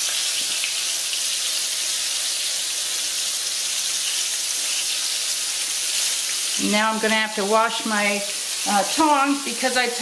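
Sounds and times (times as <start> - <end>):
fish frying with dense sizzle: 0.0 - 10.0.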